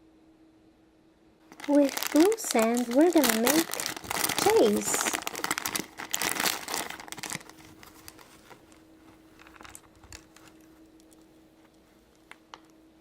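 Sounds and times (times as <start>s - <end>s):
faint steady hum: 0.0s - 13.0s
plastic packaging crinkling: 1.4s - 12.8s.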